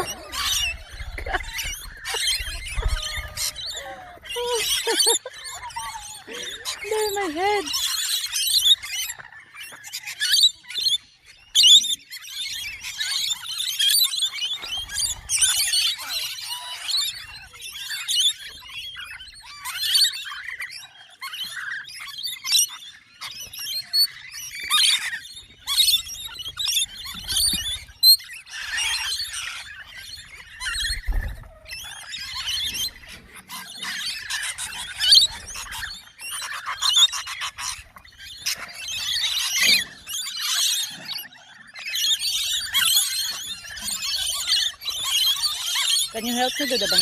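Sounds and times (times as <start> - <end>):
flock of birds squawking: 0.0 - 47.0.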